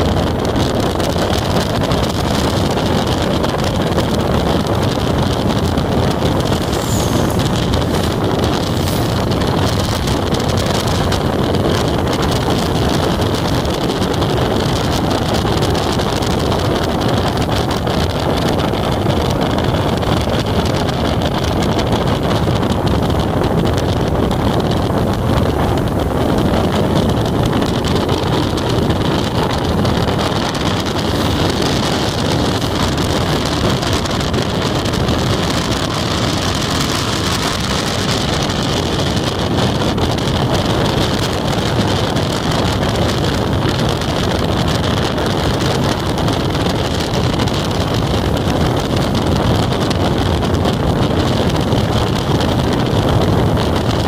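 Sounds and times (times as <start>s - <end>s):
motorcycle engine drone: 0.0s - 54.0s
wind rushing over microphone: 0.0s - 54.0s.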